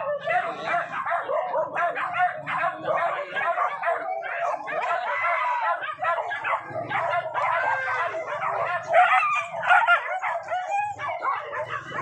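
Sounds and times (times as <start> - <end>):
dogs yelping barking and howling: 0.0 - 12.0.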